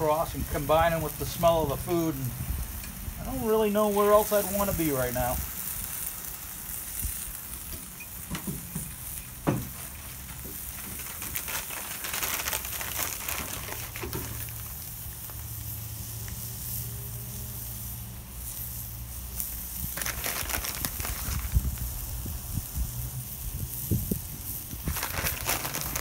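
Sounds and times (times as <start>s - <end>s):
chicken sizzling on a griddle: 0.0s - 26.0s.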